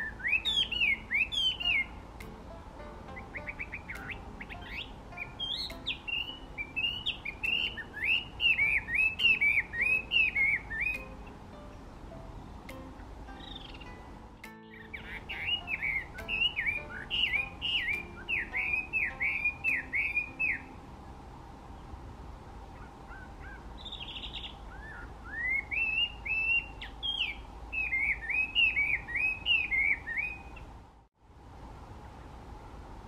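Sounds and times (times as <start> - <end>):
songbird singing: 0.0 - 31.1.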